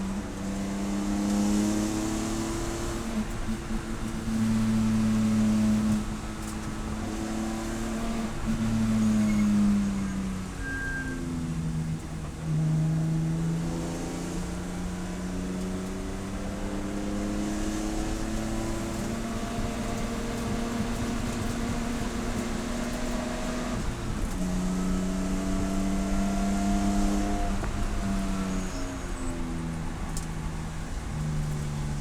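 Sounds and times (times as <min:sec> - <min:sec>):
race car engine under load: 0:00.0 - 0:32.0.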